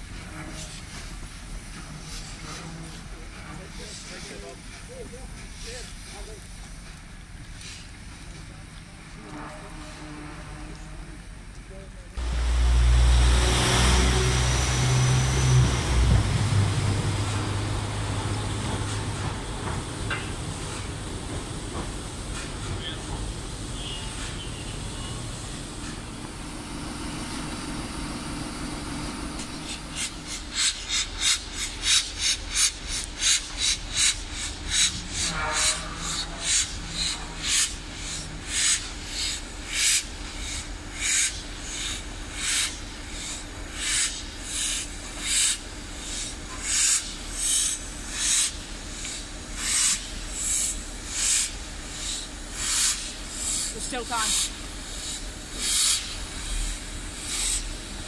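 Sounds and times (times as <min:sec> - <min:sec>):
hiss of steam: 0:00.0 - 0:07.0, 0:07.6 - 0:08.4, 0:12.2 - 0:58.0
steam locomotive exhaust beats: 0:00.0 - 0:58.0.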